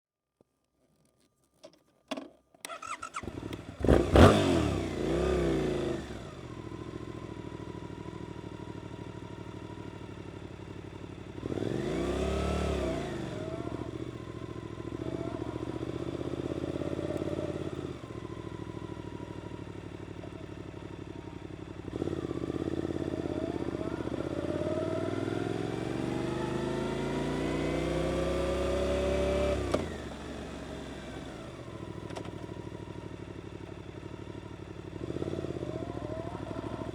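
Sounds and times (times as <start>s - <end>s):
motorcycle engine revving: 2.6s - 36.9s.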